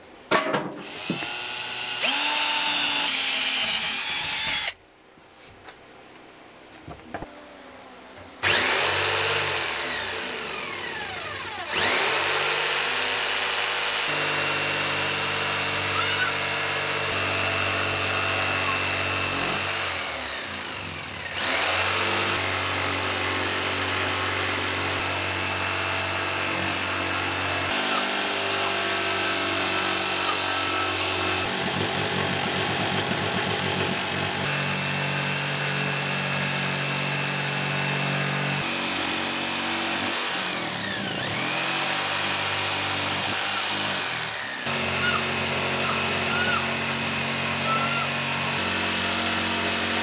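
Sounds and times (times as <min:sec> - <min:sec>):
power drill whining: 0:00.8 - 0:04.8, 0:08.4 - 0:50.0.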